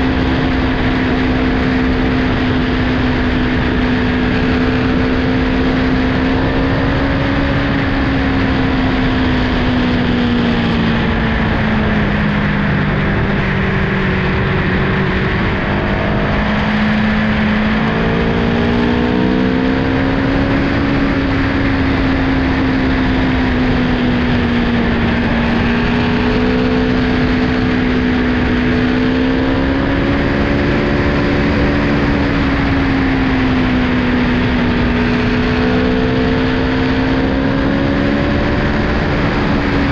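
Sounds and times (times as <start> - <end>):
heavy wind noise: 0.0 - 39.9
motorcycle engine at road speed: 0.0 - 39.9.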